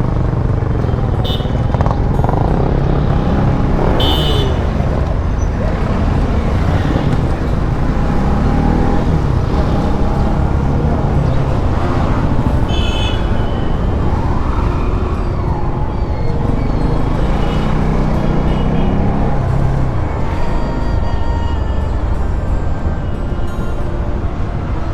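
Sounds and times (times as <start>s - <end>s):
motorcycle engine rumbling: 0.0s - 23.4s.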